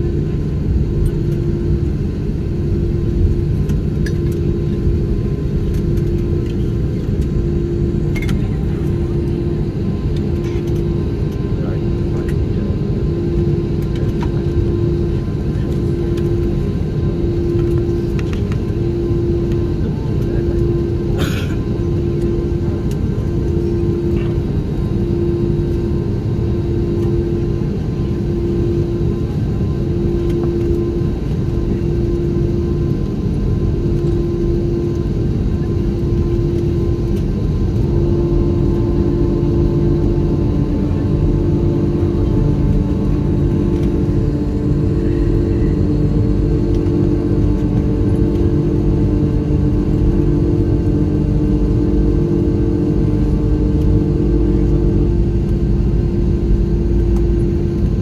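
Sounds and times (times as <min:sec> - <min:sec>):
aircraft cabin rumble: 0:00.0 - 0:58.0
steady hums: 0:00.0 - 0:58.0.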